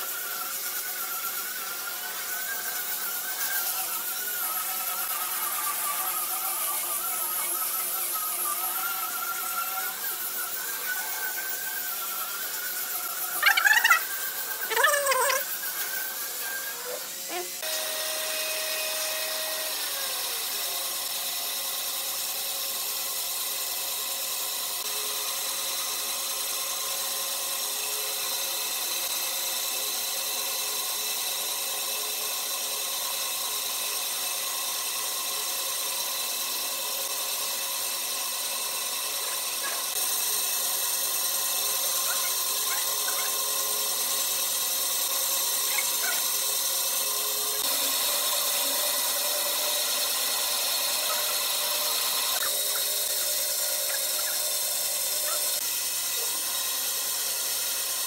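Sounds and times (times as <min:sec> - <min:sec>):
band saw cutting wood: 0:00.0 - 0:24.9, 0:27.8 - 0:58.0.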